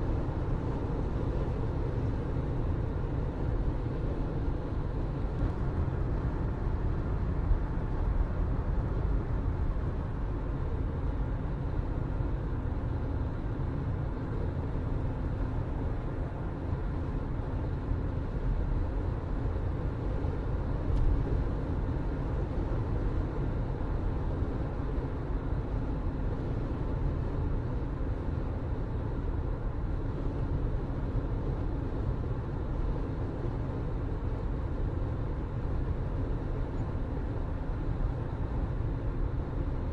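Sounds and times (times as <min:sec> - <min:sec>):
vehicle rumbling: 0:00.0 - 0:39.9.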